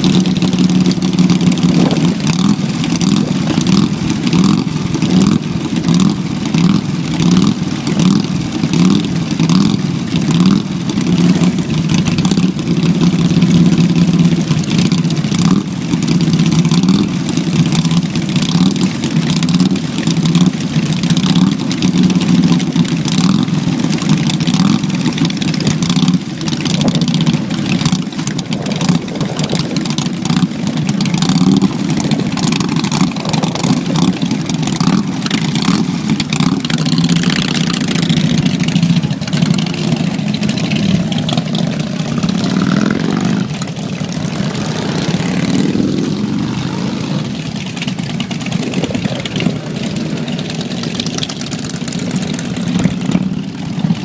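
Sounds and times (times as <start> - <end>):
motorcycles idling and revving: 0.0 - 54.0.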